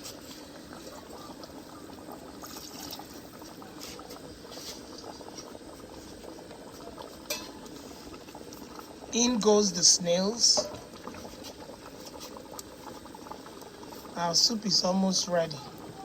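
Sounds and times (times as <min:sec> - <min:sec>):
soup bubbling at a boil: 0:00.0 - 0:16.0.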